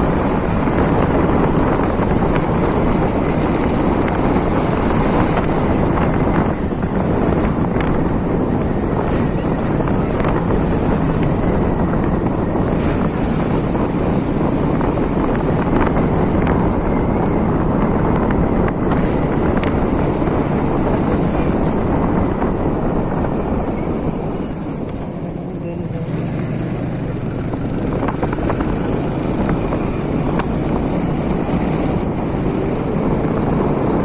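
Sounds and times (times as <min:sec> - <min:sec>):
moving vehicle noise: 0:00.0 - 0:34.0
wind buffeting microphone: 0:00.0 - 0:34.0.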